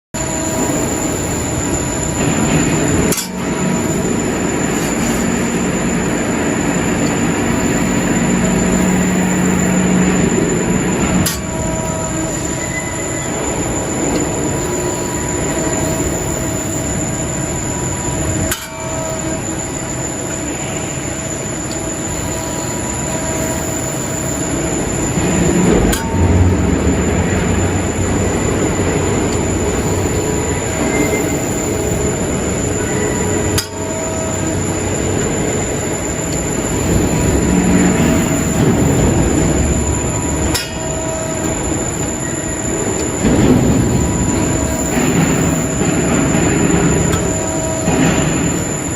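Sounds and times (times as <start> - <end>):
press brake humming and whining: 0.2 - 48.9.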